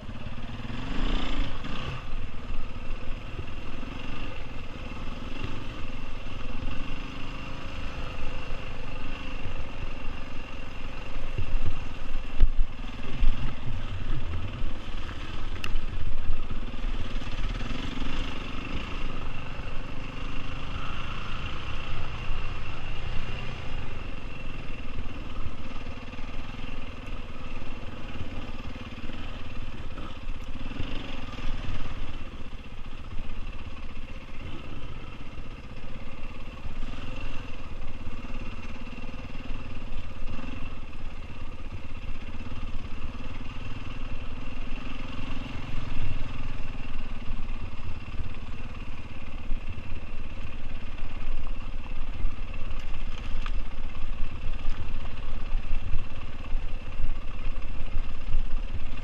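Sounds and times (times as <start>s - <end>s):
motorcycle engine running: 0.0s - 59.0s
rumble from rough ground: 0.0s - 59.0s
wind: 0.0s - 59.0s.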